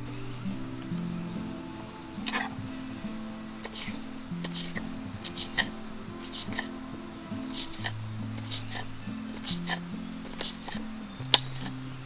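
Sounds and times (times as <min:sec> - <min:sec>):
high insect drone: 0:00.0 - 0:12.0
soft background music: 0:00.0 - 0:12.0.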